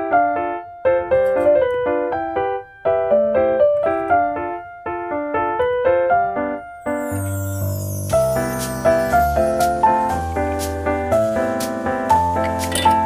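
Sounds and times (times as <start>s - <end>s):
bouncy piano tune: 0.0s - 13.0s.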